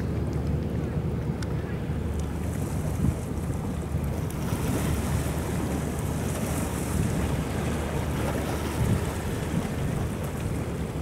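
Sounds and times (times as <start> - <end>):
barge engine rumble: 0.0 - 11.0
river water: 0.0 - 11.0
wind buffeting microphone: 0.0 - 11.0.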